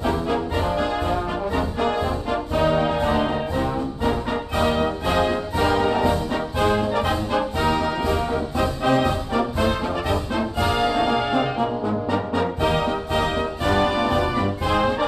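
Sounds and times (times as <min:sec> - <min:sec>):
orchestral music with brass: 0:00.0 - 0:15.0
steady beat: 0:00.0 - 0:15.0.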